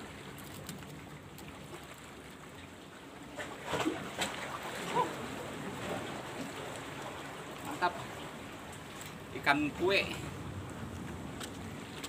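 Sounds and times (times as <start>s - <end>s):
water lapping against rocky shore: 0.0s - 12.0s.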